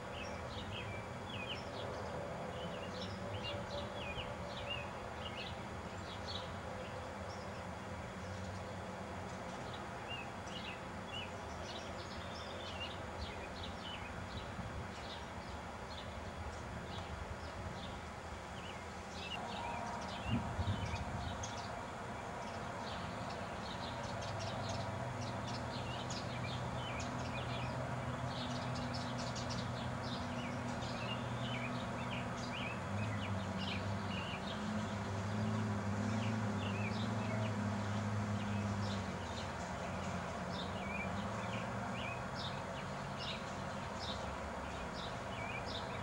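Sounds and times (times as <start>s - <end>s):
songbirds chirping: 0.0s - 46.0s.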